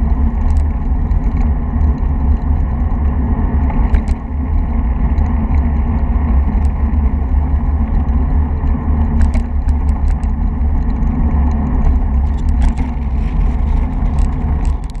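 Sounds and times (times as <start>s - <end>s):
light clicks and rattles: 0.0s - 15.0s
road rumble: 0.0s - 15.0s
wind buffeting microphone: 0.0s - 15.0s.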